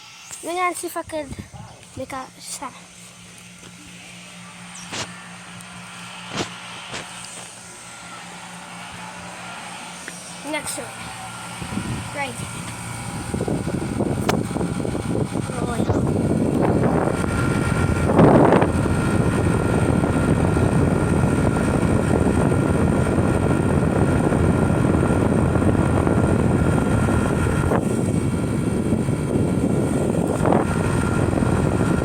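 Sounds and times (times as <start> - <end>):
air conditioner fan rush: 0.0 - 32.0
thin constant whine: 0.0 - 32.0.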